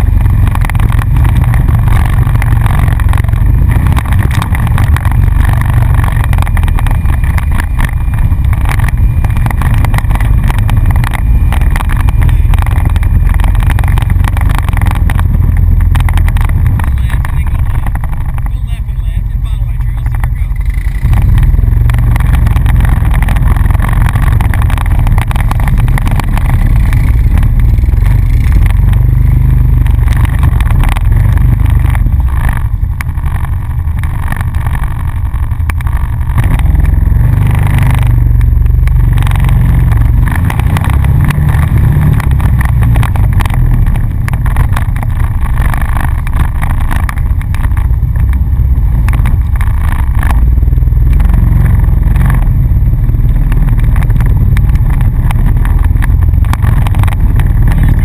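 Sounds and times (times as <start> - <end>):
atv engine running: 0.0 - 58.0
knocks and rattles over bumps: 0.0 - 58.0.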